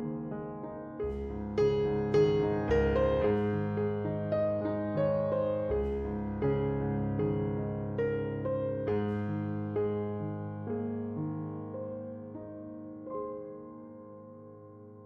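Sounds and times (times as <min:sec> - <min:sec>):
soft piano background music: 0:00.0 - 0:15.0.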